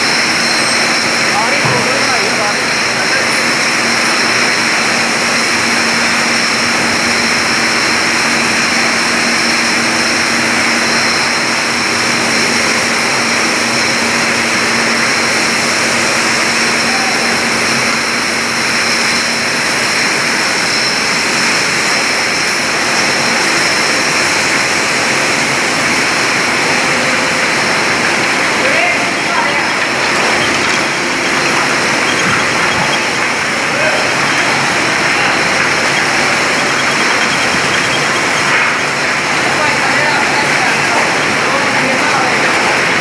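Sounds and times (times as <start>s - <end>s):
bottling line machinery din: 0.0s - 43.0s
machine whining tones: 0.0s - 43.0s.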